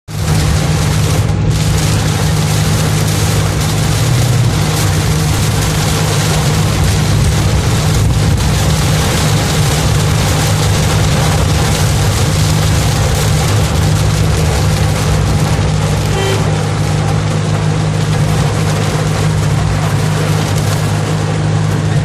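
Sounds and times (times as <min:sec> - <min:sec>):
heavy rain falling: 0:00.0 - 0:22.0
low rumble: 0:00.1 - 0:22.0.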